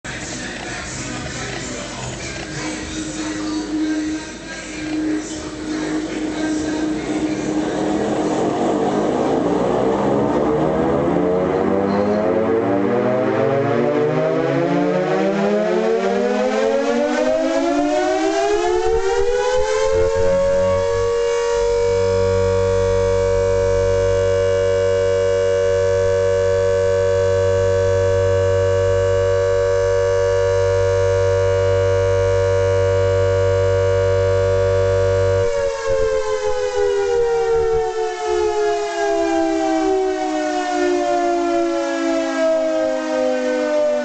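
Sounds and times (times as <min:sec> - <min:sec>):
air raid siren winding up: 0:01.4 - 0:44.0.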